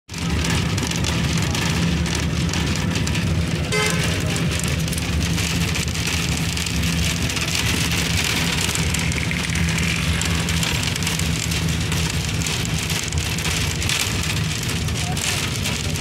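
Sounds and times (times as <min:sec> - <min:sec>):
bus engine drone: 0:00.1 - 0:16.0
road noise hiss: 0:00.1 - 0:16.0.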